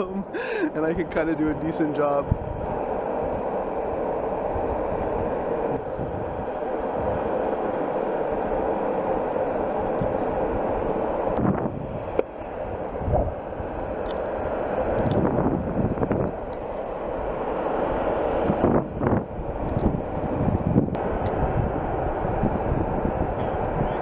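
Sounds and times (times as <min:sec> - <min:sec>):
longboard wheels rolling on asphalt: 0:00.0 - 0:24.0
wind on microphone: 0:01.0 - 0:24.0.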